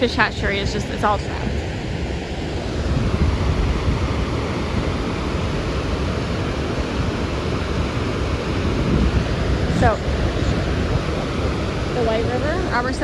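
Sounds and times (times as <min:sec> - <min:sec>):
water rushing through floodgates: 0:00.0 - 0:13.0.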